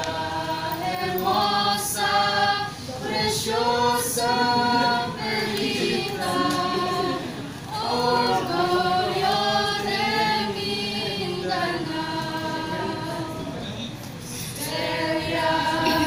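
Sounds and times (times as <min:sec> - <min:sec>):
group singing a cappella: 0:00.0 - 0:16.0.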